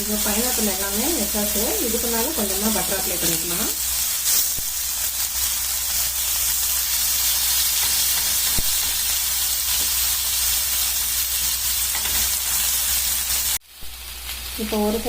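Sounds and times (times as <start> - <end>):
pineapple sizzling on a griddle: 0.0 - 15.0.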